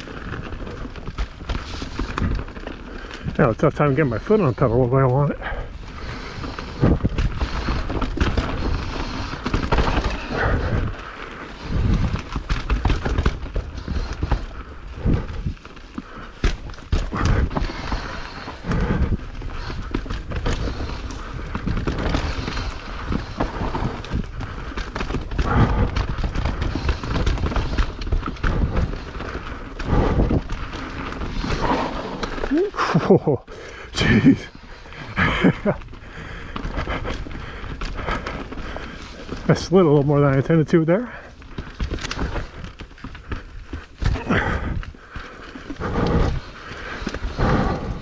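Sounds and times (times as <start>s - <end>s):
bike clattering over rough ground: 0.0s - 48.0s
tyre and trail noise: 0.0s - 48.0s.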